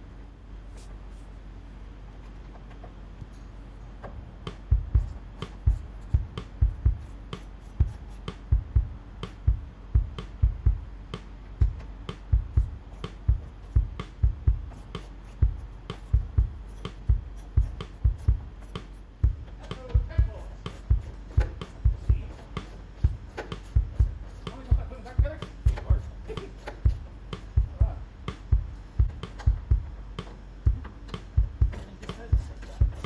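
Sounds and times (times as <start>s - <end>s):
low hum: 0.0s - 33.0s
knocks and thumps: 4.0s - 33.0s.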